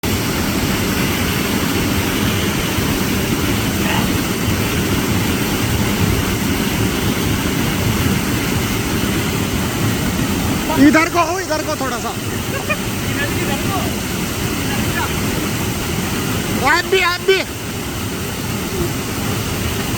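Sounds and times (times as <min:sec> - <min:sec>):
waterfall roaring: 0:00.0 - 0:19.9.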